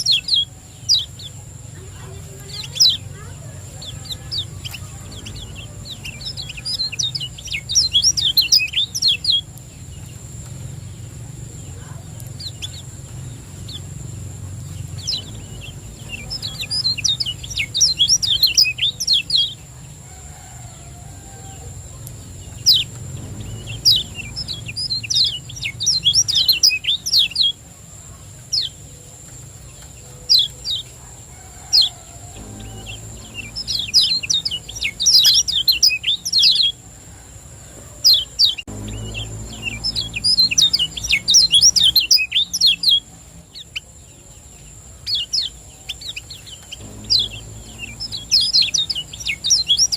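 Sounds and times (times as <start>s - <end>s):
bird singing rapid high chirps: 0.0s - 20.0s, 21.7s - 31.0s, 31.6s - 36.8s, 38.1s - 49.9s
faint steady high whine: 0.0s - 49.9s.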